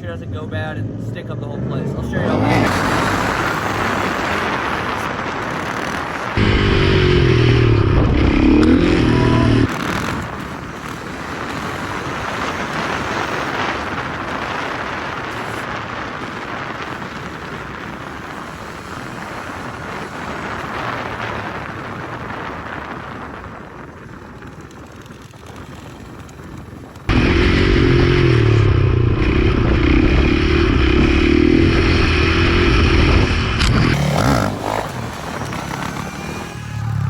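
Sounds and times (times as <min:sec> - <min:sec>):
wind and road noise: 0:00.0 - 0:37.0
motorcycle engine running loudly: 0:01.9 - 0:37.0.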